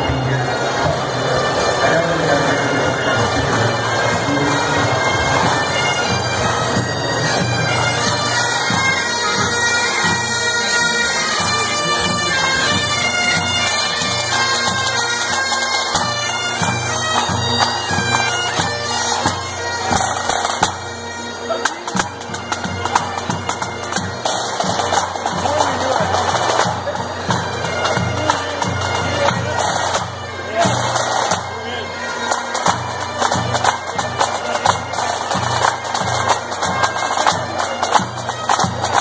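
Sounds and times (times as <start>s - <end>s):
bagpipes playing: 0.0s - 39.0s
drums beating: 0.0s - 39.0s.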